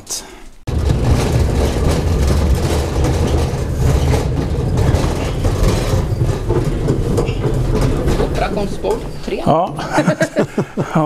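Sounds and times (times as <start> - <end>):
deep rumbling machine noise: 0.7 - 10.6.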